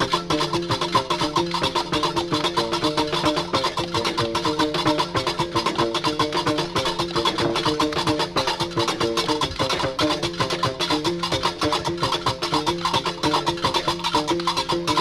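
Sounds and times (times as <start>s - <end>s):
melody of short stepped notes: 0.0s - 15.0s
rapid hand percussion: 0.0s - 15.0s.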